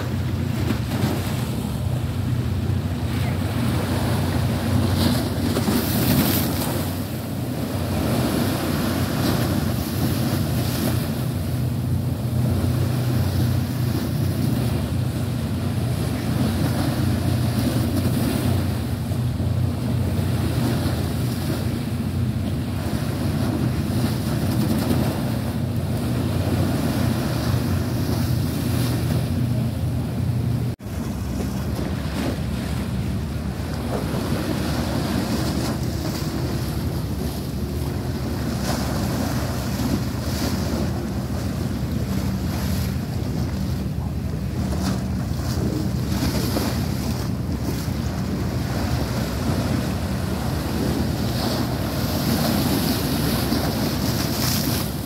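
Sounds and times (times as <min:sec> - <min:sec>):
waves slapping against pier: 0:00.0 - 0:55.0
wind buffeting microphone: 0:00.0 - 0:55.0.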